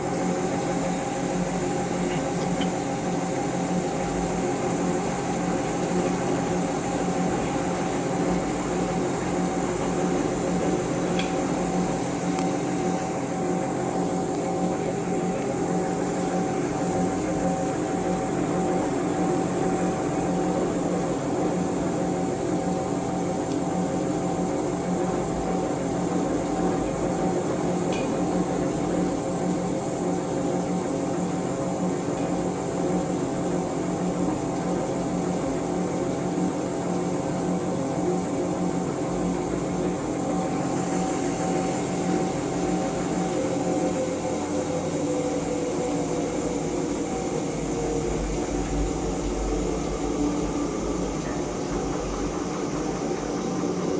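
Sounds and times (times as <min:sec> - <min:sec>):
washing machine humming: 0:00.0 - 0:53.9.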